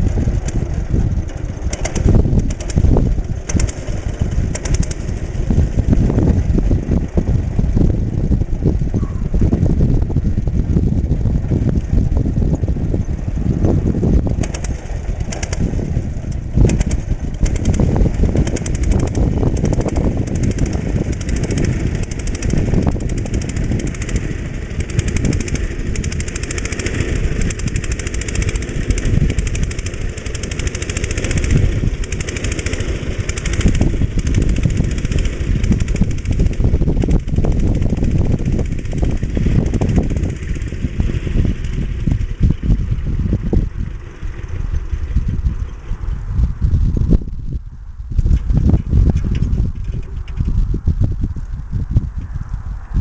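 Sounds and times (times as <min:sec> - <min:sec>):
single-cylinder engine running: 0:00.0 - 0:52.9.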